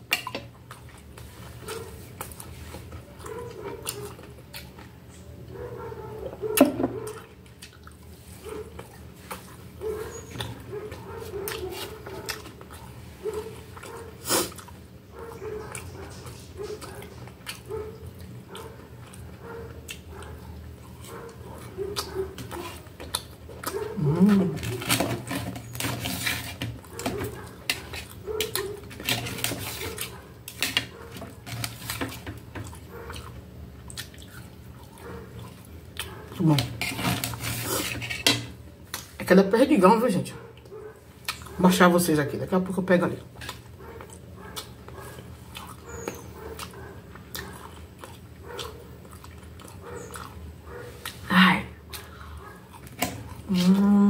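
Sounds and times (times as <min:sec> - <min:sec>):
chewing and mouth noises: 0:00.0 - 0:39.2, 0:40.4 - 0:42.0, 0:43.2 - 0:54.0.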